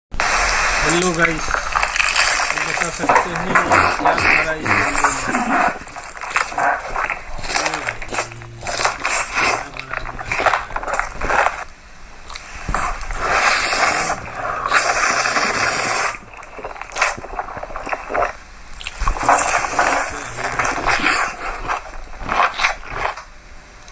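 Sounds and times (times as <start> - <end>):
food crunching and squishing: 0.2 - 23.9.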